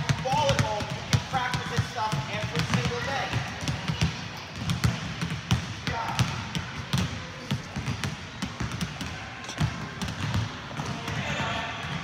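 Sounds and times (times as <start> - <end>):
basketballs bouncing on hardwood floor: 0.0 - 12.0.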